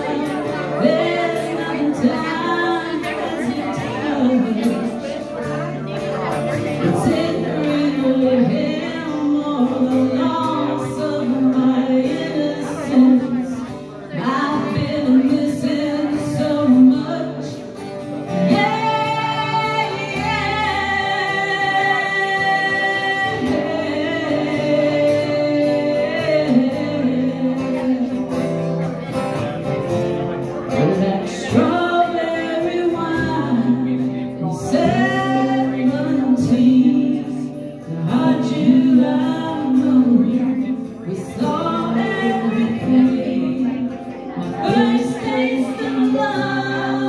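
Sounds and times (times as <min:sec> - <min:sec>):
strummed acoustic guitar: 0:00.0 - 0:47.0
woman singing country song: 0:00.0 - 0:47.0.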